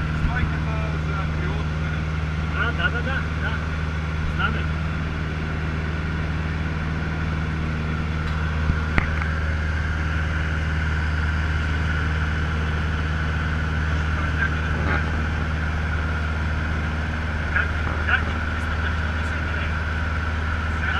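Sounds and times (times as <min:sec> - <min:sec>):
propeller plane engine droning: 0:00.0 - 0:20.9.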